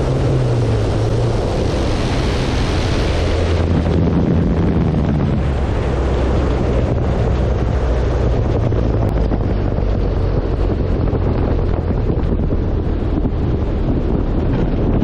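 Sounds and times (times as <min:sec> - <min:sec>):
wind rush on camera: 0:00.0 - 0:15.0.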